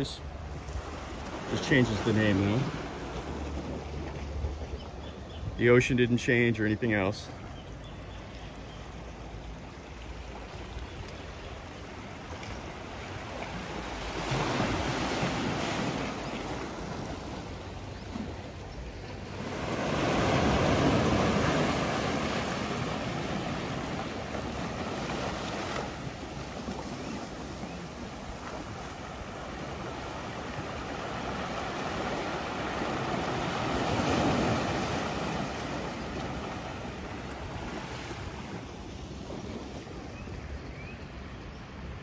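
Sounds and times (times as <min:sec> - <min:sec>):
waves washing onto beach: 0:00.0 - 0:04.7, 0:08.3 - 0:42.0.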